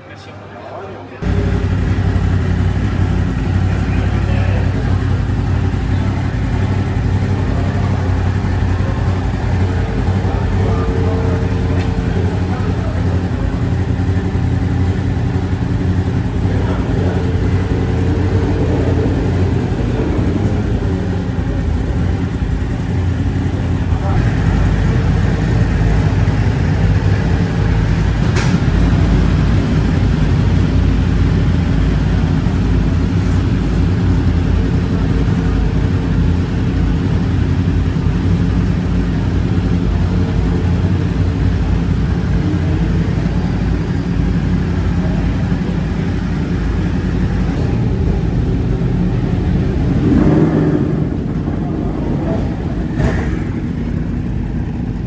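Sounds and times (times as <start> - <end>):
motorcycle engine running: 1.2 - 55.0.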